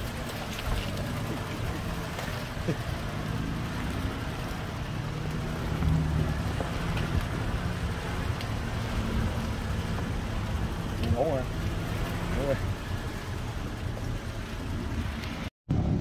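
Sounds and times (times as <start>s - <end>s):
off-road vehicle engine rumbling: 0.0s - 16.0s.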